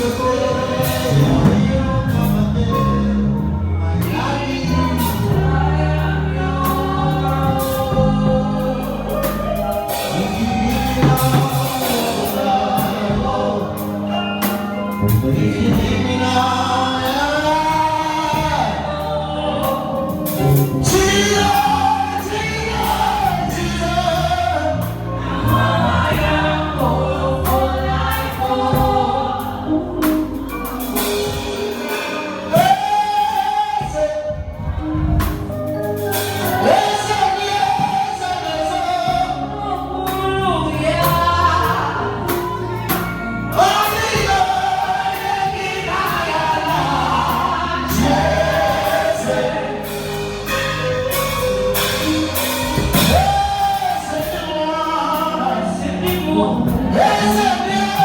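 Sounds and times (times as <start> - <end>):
band with bass and drums: 0.0 - 58.0
voices singing held notes: 0.0 - 58.0.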